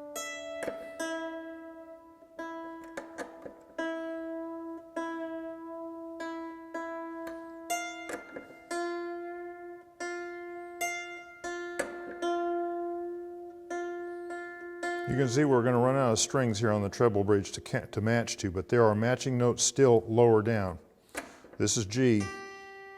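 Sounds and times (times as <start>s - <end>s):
dulcimer strings plucked: 0.0s - 22.9s.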